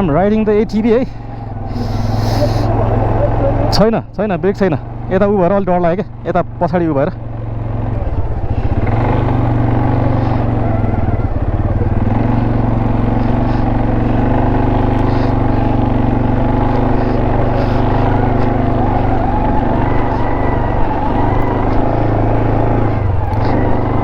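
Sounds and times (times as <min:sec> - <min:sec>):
quad engine running: 0:00.0 - 0:24.0.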